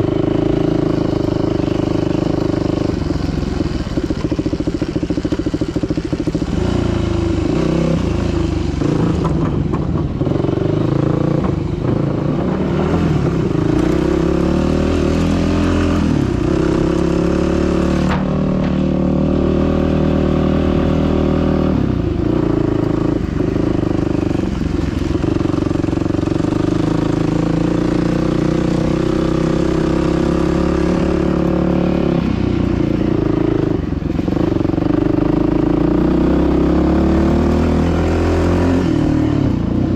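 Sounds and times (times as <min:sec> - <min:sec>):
dirt bike engine revving: 0:00.0 - 0:09.6, 0:10.2 - 0:39.8.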